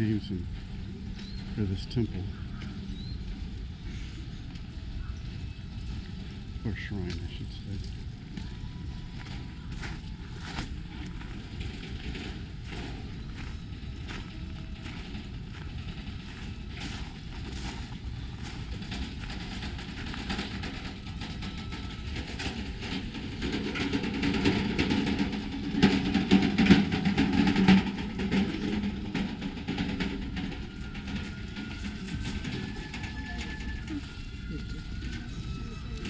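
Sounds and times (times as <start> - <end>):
outdoor background noise: 0.0 - 36.0
vehicle engine running: 0.0 - 36.0.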